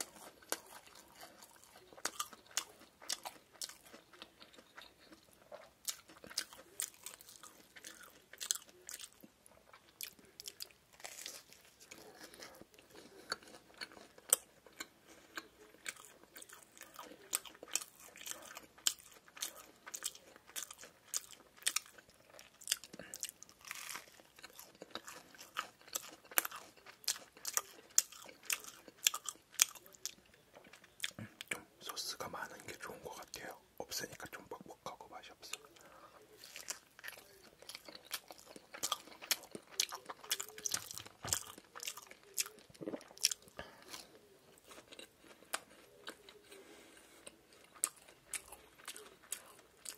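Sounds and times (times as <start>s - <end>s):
person chewing crunchy food: 0.0s - 34.2s, 35.5s - 49.9s.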